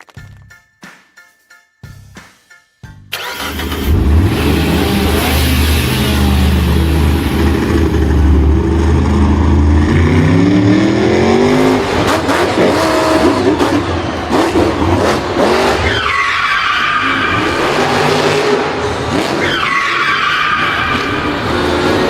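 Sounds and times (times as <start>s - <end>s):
vehicle engine revving: 3.1s - 22.0s.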